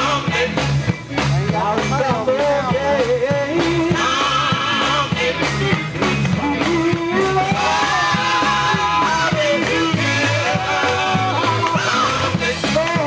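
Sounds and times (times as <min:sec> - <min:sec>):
gospel band playing: 0:00.0 - 0:13.0
steady drum beat: 0:00.0 - 0:13.0.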